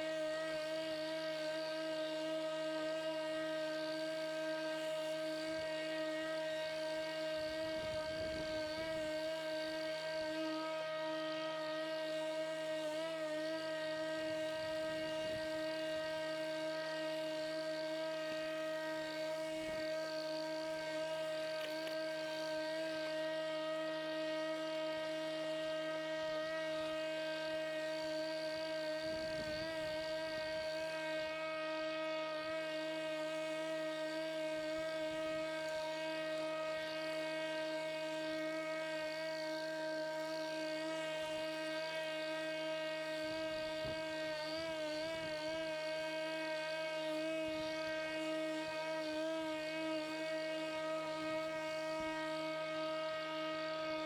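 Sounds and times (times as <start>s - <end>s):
electric lawnmower motor whine: 0.0s - 54.0s.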